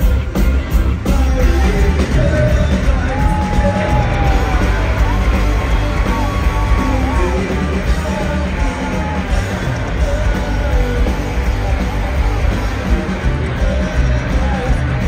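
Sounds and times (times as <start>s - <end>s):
live hard rock band: 0.0s - 15.0s
male lead vocal: 0.0s - 15.0s.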